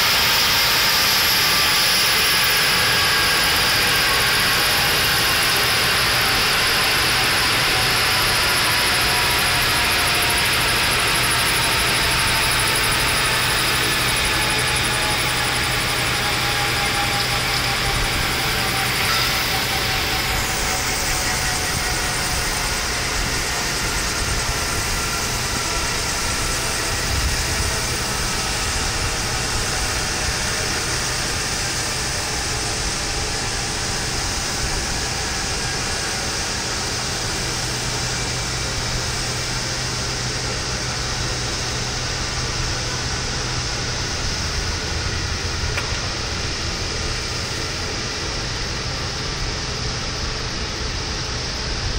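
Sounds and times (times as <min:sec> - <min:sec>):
helicopter turbine whine: 0:00.0 - 0:51.9.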